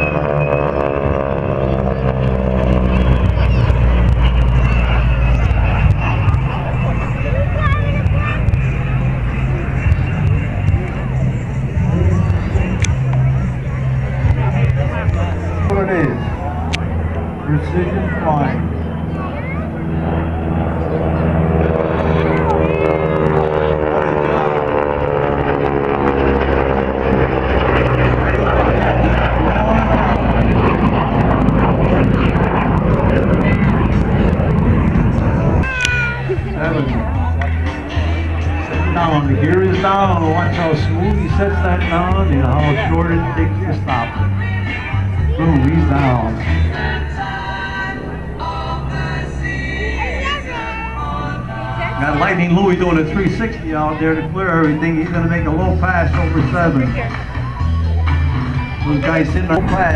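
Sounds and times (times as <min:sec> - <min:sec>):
aircraft engines droning past: 0:00.0 - 0:59.9.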